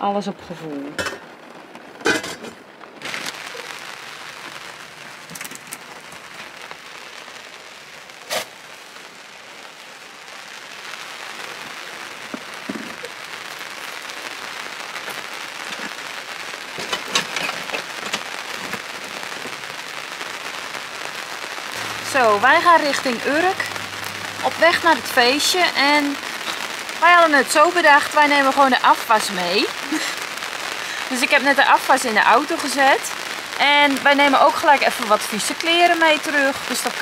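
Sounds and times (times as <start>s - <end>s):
rain on an awning: 0.0s - 37.0s.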